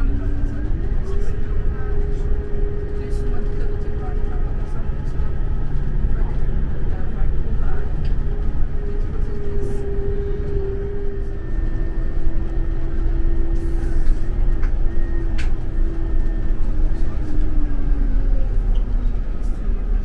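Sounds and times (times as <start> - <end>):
coach engine and road rumble: 0.0 - 20.0
drivetrain whine: 0.0 - 20.0.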